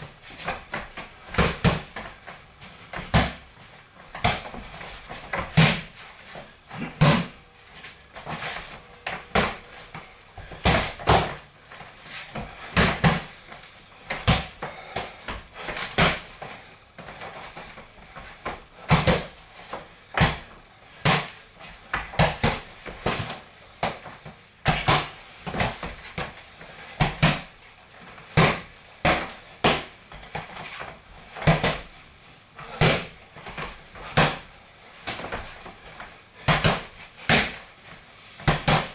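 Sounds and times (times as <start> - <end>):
boxing gloves smacking mitts: 0.0 - 3.5, 4.1 - 31.9, 32.6 - 38.9.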